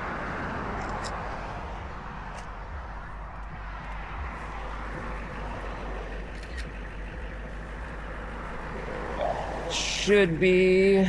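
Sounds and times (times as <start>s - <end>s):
engine rumble: 0.0s - 11.0s
road traffic passing: 0.0s - 11.0s.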